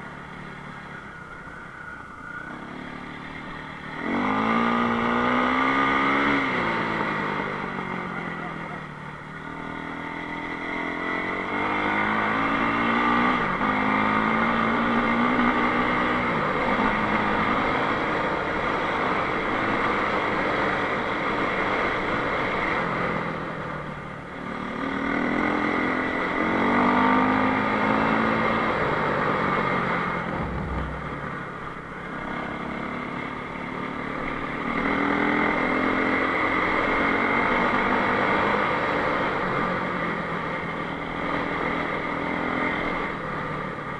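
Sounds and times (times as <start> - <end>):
motorcycle engine revving: 1.8 - 43.9.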